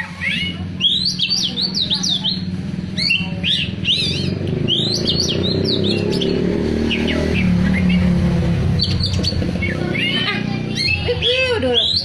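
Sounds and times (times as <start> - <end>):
bird singing whistled notes: 0.0 - 12.0.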